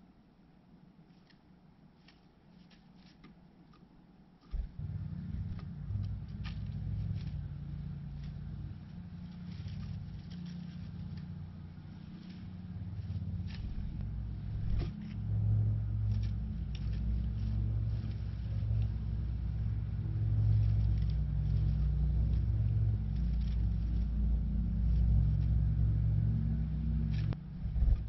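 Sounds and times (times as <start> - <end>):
lawnmower engine running: 4.6 - 28.0.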